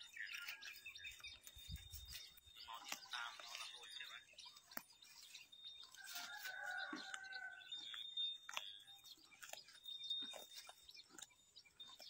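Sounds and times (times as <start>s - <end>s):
birds chirping: 0.0s - 12.0s
cow tearing and chewing grass: 0.0s - 12.0s.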